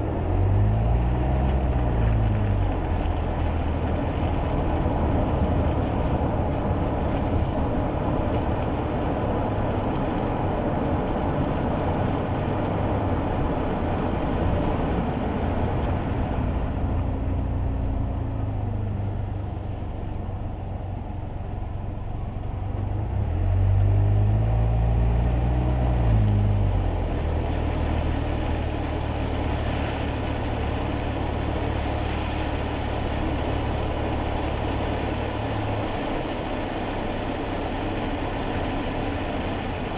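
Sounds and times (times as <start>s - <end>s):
small car engine drone: 0.0s - 39.9s
tyre and road noise: 0.0s - 39.9s.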